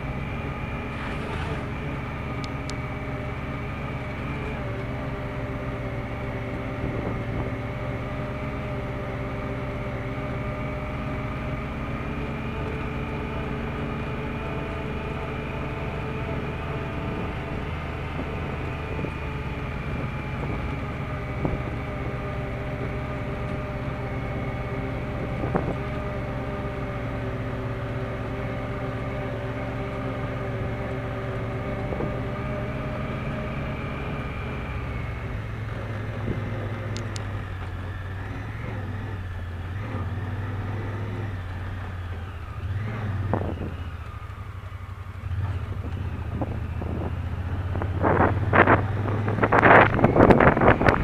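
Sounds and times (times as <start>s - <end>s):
tyres rumbling on dirt track: 0.0s - 51.0s
vehicle engine running: 0.0s - 51.0s.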